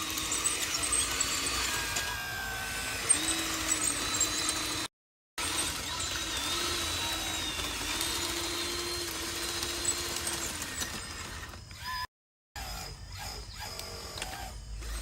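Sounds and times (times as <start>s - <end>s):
electric motor whining: 0.0s - 15.0s
motor whirs: 0.0s - 15.0s.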